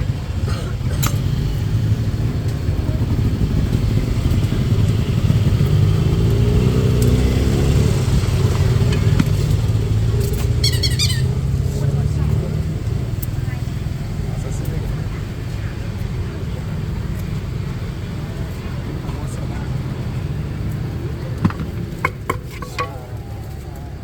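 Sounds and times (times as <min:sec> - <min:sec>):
road traffic: 0:00.0 - 0:24.0
vehicle passing: 0:00.0 - 0:24.0.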